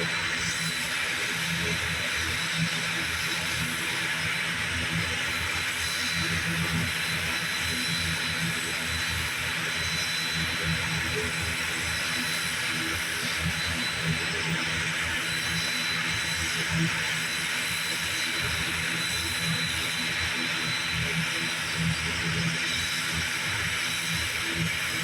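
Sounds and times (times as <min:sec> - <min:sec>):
turboprop engine whine: 0:00.0 - 0:25.0.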